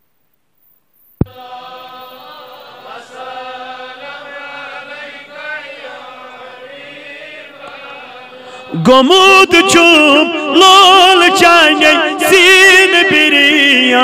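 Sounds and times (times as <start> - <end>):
voices softly chanting: 1.2 - 12.8.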